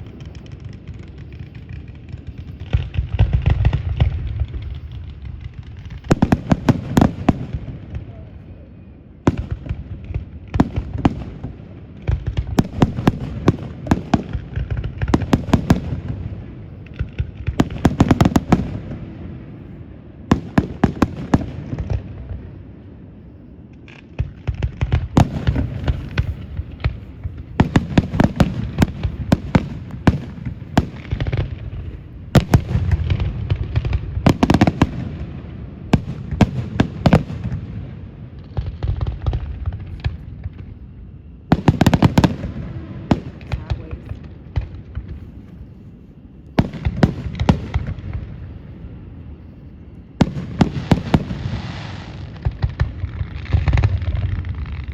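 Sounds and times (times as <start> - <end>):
firework crackling pops: 0.0 - 8.4, 9.2 - 45.8, 46.4 - 48.9, 50.2 - 54.9
firework booms: 0.0 - 45.8, 46.5 - 49.5, 50.1 - 54.9.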